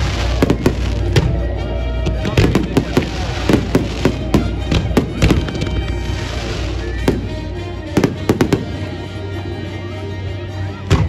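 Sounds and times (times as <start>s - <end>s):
fireworks bangs and crackling: 0.0s - 9.5s
music: 0.0s - 11.0s.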